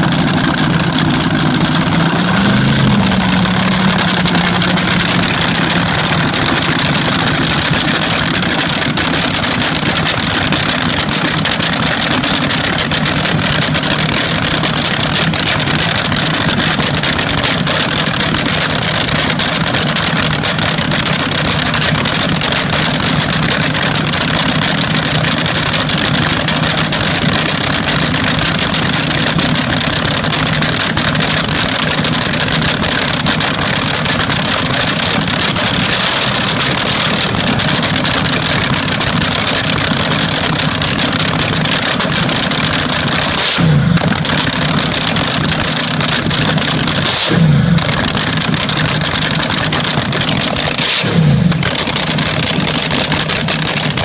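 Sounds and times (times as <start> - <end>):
supercharged engine idling: 0.0 - 54.0.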